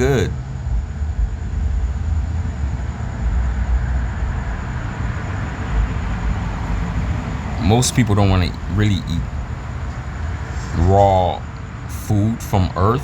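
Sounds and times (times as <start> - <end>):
vehicle running noise: 0.0 - 13.0.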